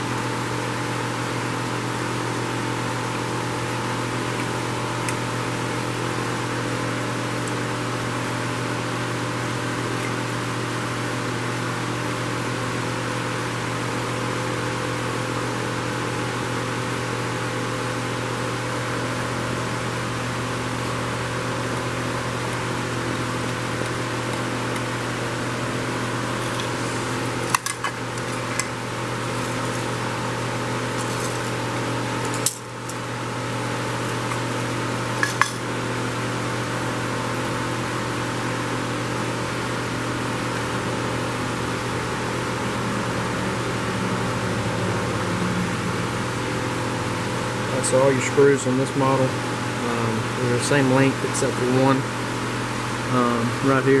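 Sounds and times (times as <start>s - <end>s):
fan droning: 0.0s - 54.0s.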